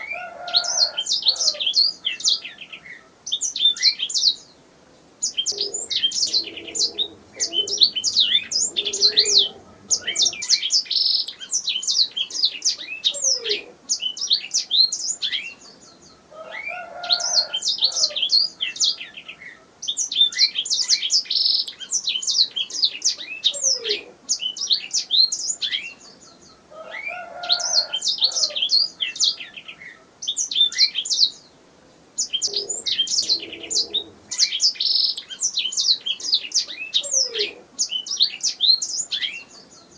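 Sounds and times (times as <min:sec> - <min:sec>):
canary singing trills: 0:00.0 - 0:04.6, 0:05.2 - 0:31.5, 0:32.2 - 0:39.9.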